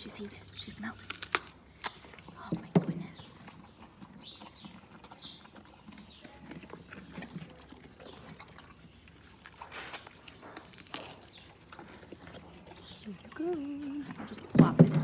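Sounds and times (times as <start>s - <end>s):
horse chewing an apple: 0.0s - 15.0s.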